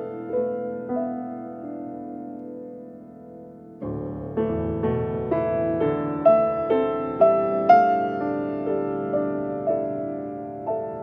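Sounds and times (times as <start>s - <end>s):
slow gentle piano music: 0.0s - 11.0s.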